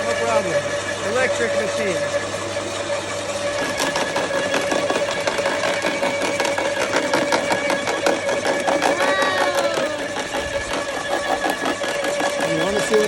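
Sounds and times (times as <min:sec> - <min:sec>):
wood chipper motor hum: 0:00.0 - 0:13.0.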